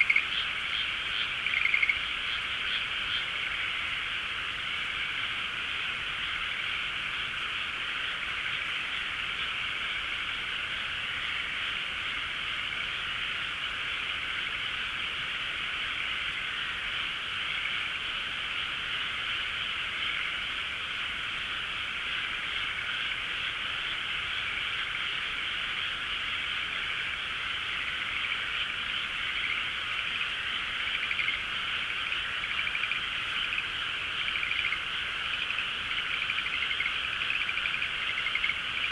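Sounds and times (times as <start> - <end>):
chorus of frogs calling: 0.0 - 38.9.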